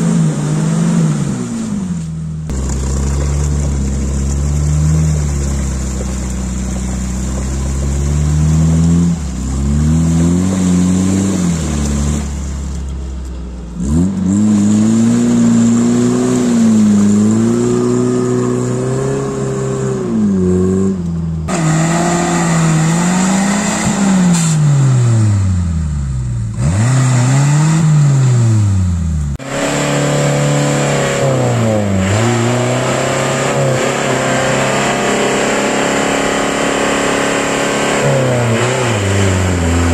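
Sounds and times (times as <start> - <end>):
off-road engines revving in mud: 0.0 - 13.0, 13.7 - 39.9.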